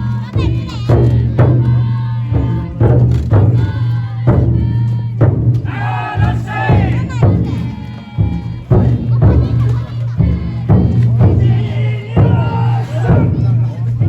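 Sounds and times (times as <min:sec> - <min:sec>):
group chanting and singing: 0:00.0 - 0:14.0
taiko drum beat: 0:00.0 - 0:14.0.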